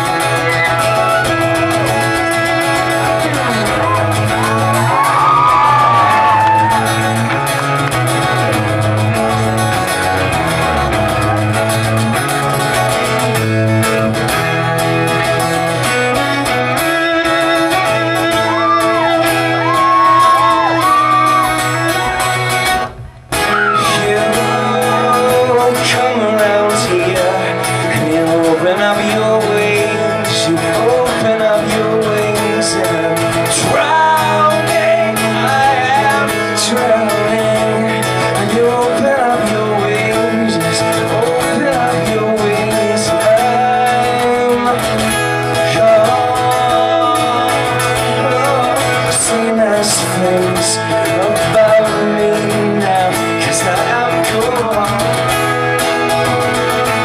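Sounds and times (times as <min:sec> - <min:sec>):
man singing: 0:00.0 - 0:22.8, 0:23.4 - 0:57.0
acoustic guitar: 0:00.0 - 0:57.0.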